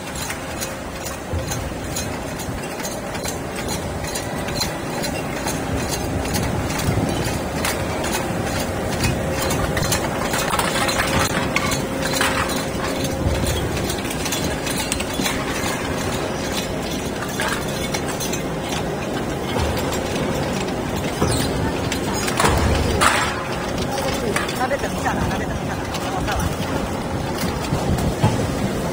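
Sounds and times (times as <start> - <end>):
can baling machine running: 0.0 - 28.9.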